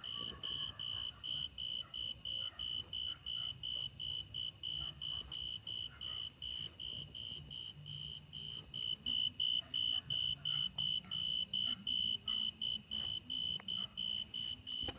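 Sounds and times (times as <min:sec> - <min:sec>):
insect chirping: 0:00.0 - 0:14.9.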